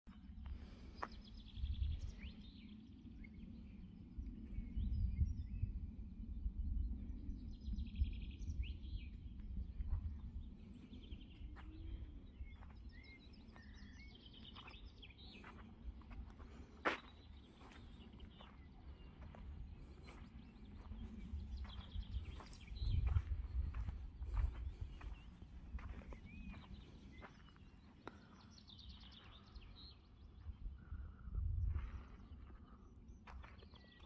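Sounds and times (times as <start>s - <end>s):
songbirds trilling and chirping: 0.1s - 34.0s
wind rumbling on microphone: 0.1s - 34.0s.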